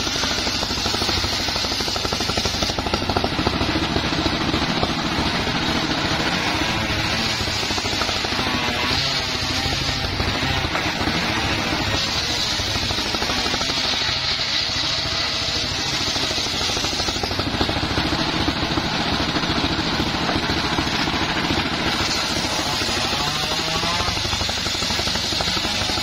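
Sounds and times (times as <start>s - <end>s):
table saw blade spinning: 0.0s - 17.6s, 18.2s - 26.0s.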